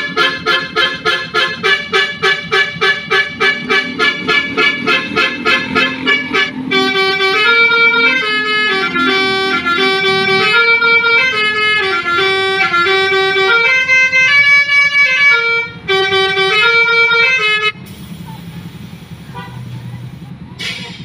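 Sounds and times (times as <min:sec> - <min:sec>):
electric horn playing melody: 0:00.0 - 0:17.8.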